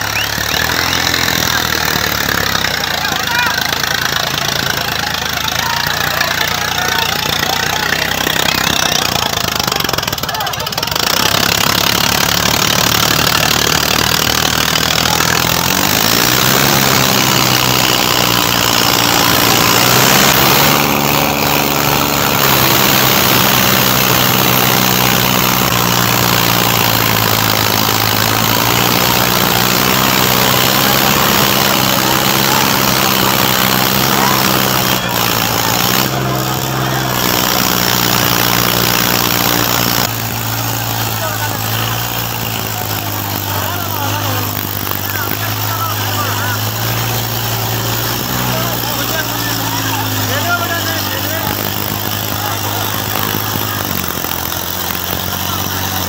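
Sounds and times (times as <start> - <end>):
tractor diesel engine running hard: 0.0 - 56.0.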